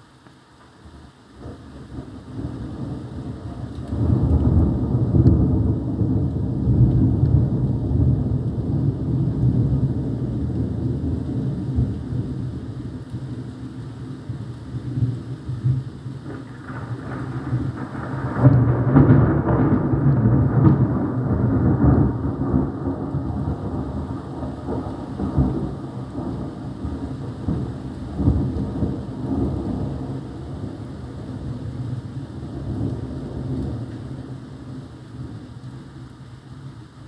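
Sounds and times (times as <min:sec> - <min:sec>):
steady rain: 0:00.0 - 0:37.0
thunder rumbling: 0:01.4 - 0:13.4, 0:14.2 - 0:35.9.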